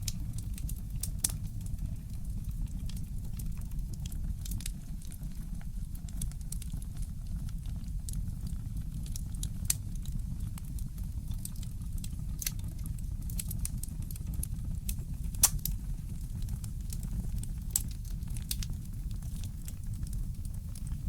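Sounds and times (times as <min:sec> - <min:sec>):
burning wood popping: 0:00.0 - 0:21.0
low steady rumble: 0:00.0 - 0:21.0.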